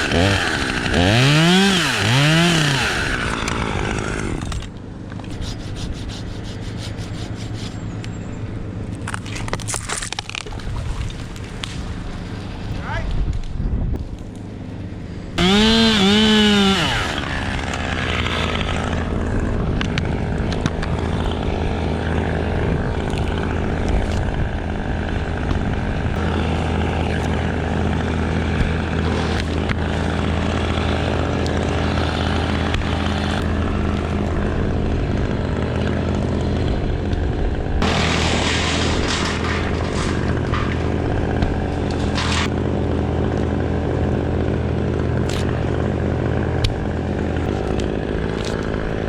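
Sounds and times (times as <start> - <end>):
engine running steadily: 0.0 - 49.0.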